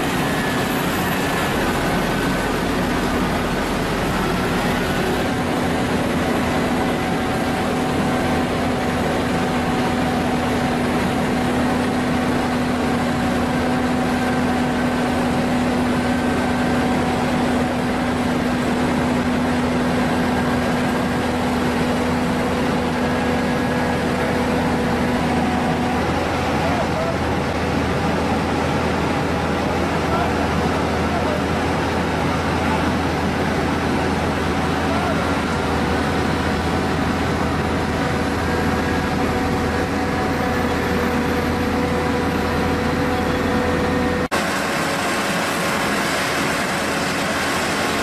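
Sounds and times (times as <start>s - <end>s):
diesel machinery droning: 0.0s - 48.0s.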